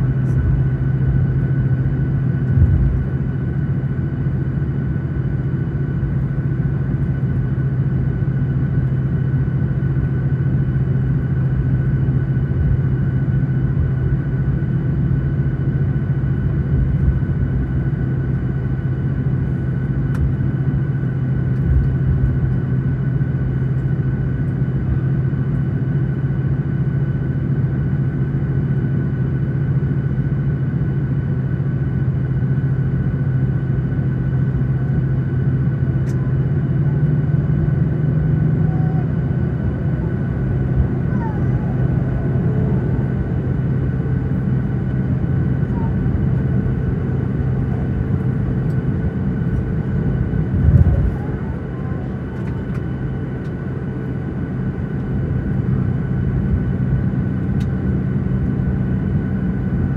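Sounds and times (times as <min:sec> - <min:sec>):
aircraft engines idling: 0:00.0 - 0:59.9.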